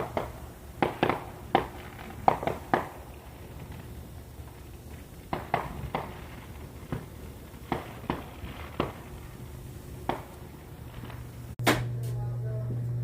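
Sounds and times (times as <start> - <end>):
fireworks popping and banging: 0.0 - 12.0
low steady hum: 0.0 - 13.0.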